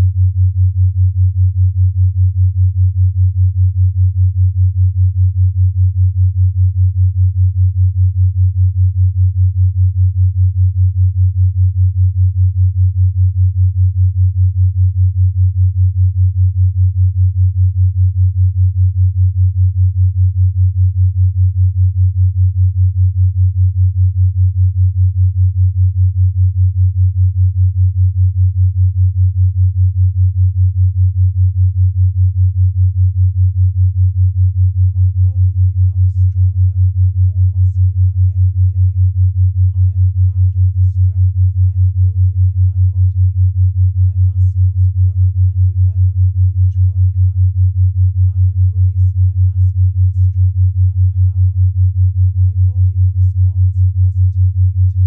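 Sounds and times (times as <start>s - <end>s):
pulsing low sine tone: 0.0s - 55.0s.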